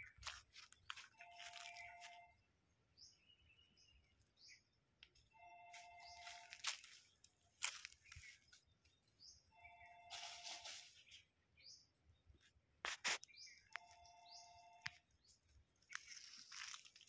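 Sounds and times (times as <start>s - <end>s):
bird chirps: 0.0s - 12.5s, 13.1s - 16.9s.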